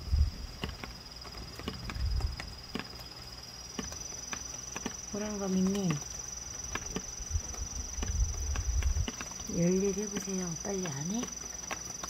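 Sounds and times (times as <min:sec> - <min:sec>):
insect trill: 0:00.0 - 0:12.0
rain drops on plastic tarp: 0:00.0 - 0:12.0.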